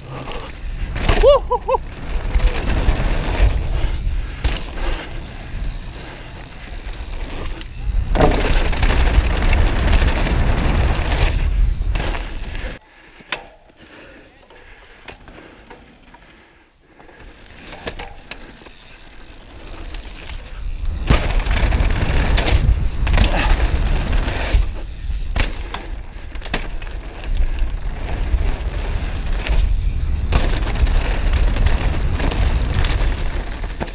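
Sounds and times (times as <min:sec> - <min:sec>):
mountain bike tyre roar on gravel: 0:00.0 - 0:12.8, 0:14.6 - 0:33.9
bike rattling: 0:00.0 - 0:33.9.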